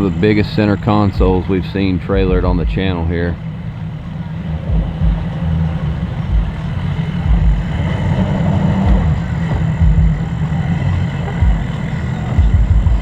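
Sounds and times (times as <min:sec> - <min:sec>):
irregular low thumps: 0:00.0 - 0:13.0
large engine rumbling: 0:00.0 - 0:13.0.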